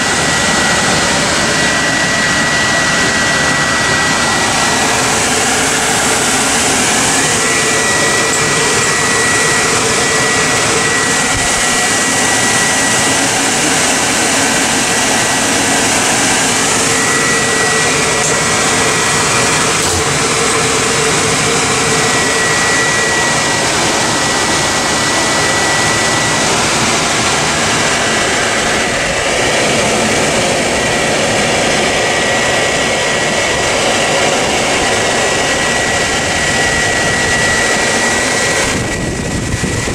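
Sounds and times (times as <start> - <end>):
loud rushing machine noise: 0.0 - 39.9
thin high whine: 0.0 - 39.9.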